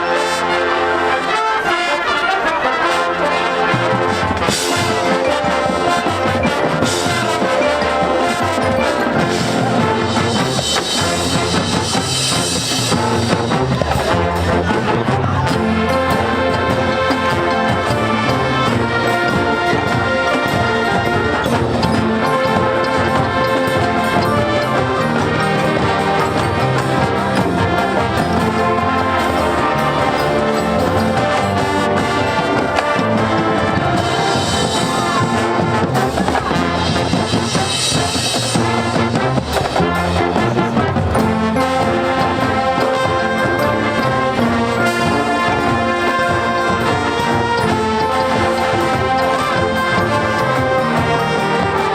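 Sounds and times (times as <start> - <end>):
marching band brass playing: 0.0 - 51.9.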